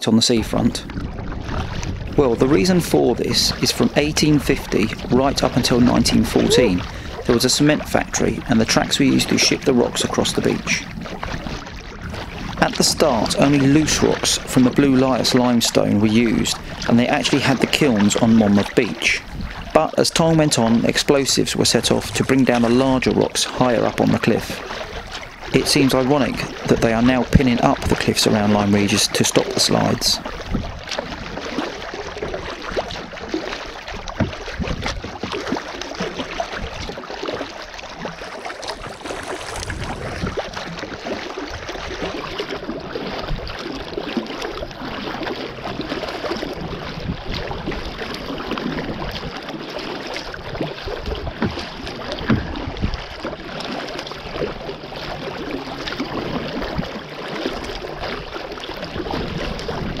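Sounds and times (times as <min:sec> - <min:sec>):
paddle splashing in water: 0:00.0 - 1:00.0
water sloshing against hull: 0:00.0 - 1:00.0.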